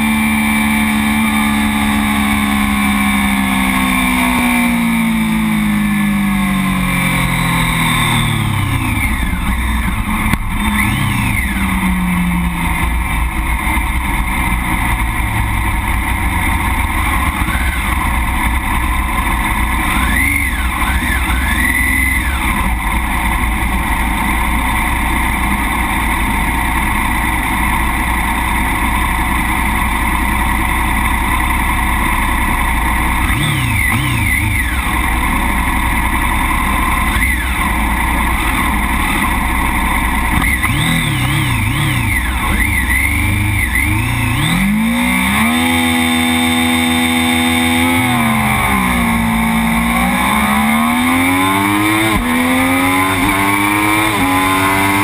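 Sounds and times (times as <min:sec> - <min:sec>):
motorcycle engine winding down: 0:00.0 - 0:55.0
motorcycles revving: 0:00.0 - 0:55.0.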